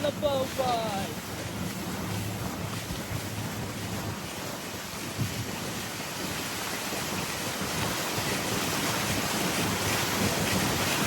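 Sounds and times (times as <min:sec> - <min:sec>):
water rushing past boat: 0:00.0 - 0:11.0
wind buffeting microphone: 0:00.0 - 0:11.0.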